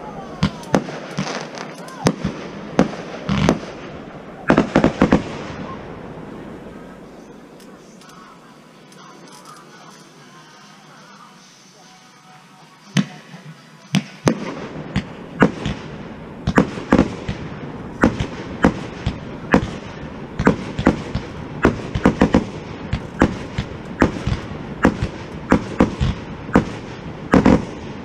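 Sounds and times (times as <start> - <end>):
fireworks bangs and cracks: 0.0 - 7.6, 12.2 - 28.0
distant fireworks bangs: 0.3 - 7.6, 12.8 - 28.0.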